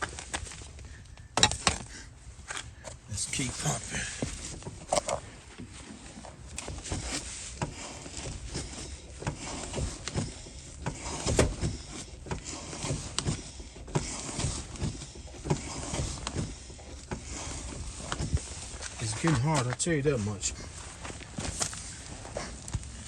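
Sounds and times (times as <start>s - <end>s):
brake pedal knocks and clicks: 0.0s - 23.0s.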